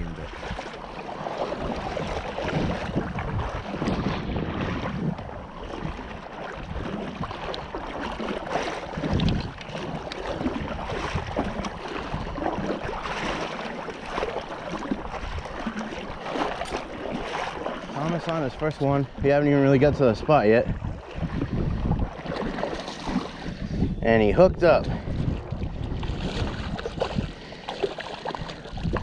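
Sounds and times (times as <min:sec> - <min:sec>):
water washing: 0:00.0 - 0:23.7, 0:24.6 - 0:29.0
wind buffeting microphone: 0:00.0 - 0:29.0.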